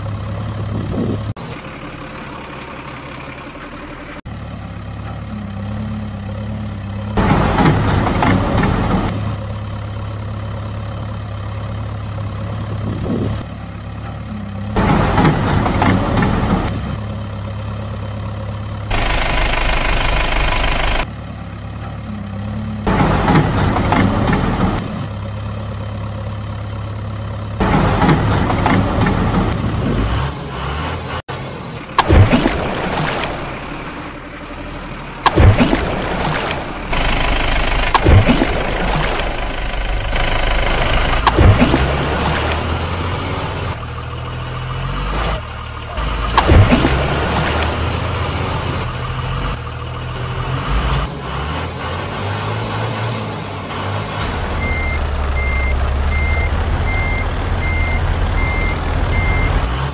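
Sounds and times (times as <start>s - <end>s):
engine idling and revving: 0.0s - 59.9s.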